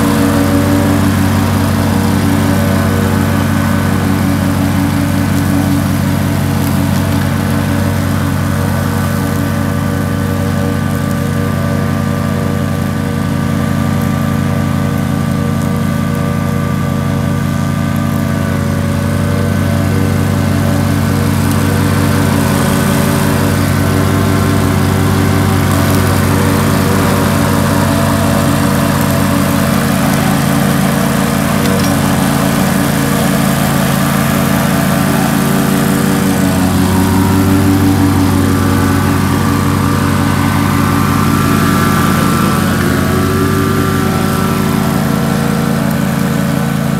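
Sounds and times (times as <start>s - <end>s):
mower engine running: 0.0s - 46.9s.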